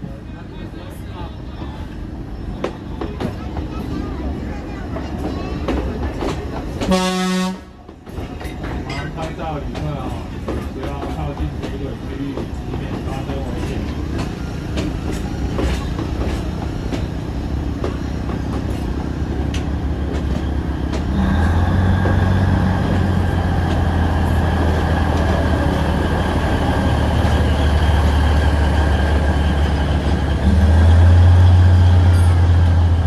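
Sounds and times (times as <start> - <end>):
diesel locomotive drone: 0.0 - 33.0
train wheels clicking over rail joints: 1.6 - 33.0.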